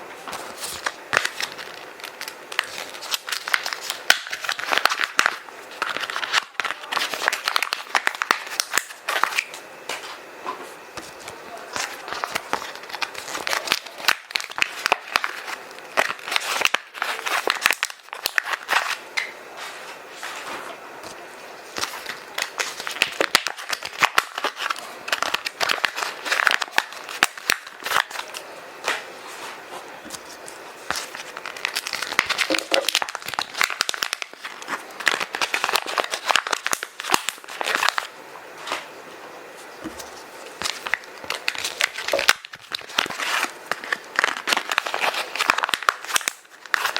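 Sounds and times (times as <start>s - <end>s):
paper and plastic bags crinkling: 0.2s - 19.0s, 19.7s - 38.9s, 39.5s - 46.9s.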